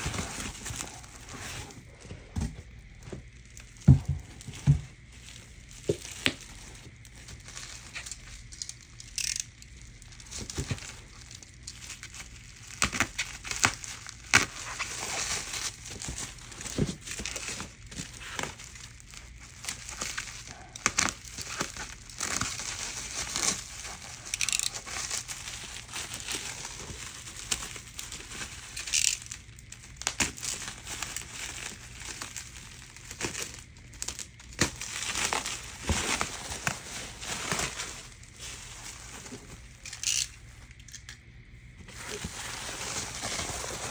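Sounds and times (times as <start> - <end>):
paper packing crinkling: 0.0 - 43.9.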